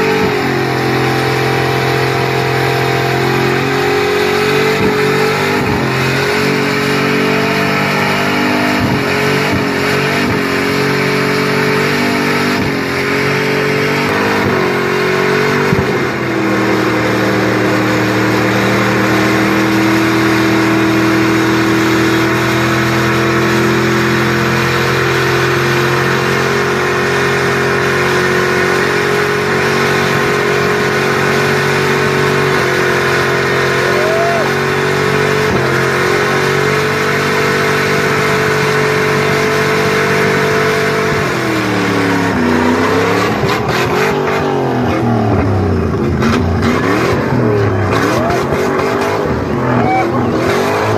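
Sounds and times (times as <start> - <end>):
car engine revving high: 0.0 - 50.9.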